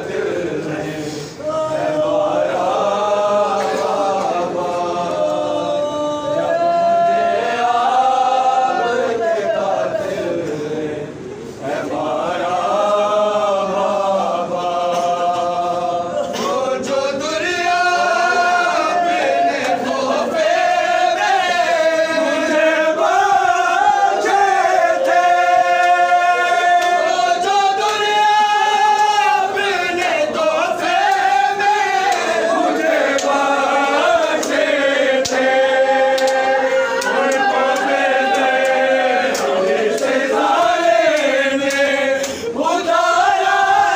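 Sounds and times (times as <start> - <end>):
men chanting a lament: 0.0 - 43.9.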